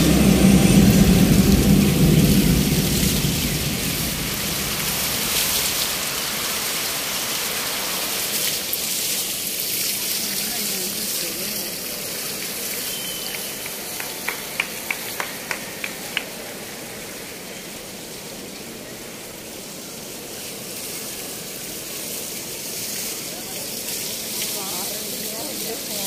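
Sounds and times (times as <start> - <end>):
fountain water spraying: 0.0 - 26.0.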